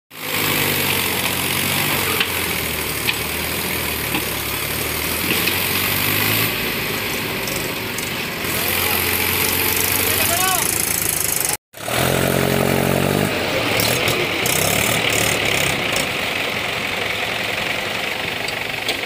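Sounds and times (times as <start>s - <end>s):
tractor diesel engine running: 0.1s - 19.0s.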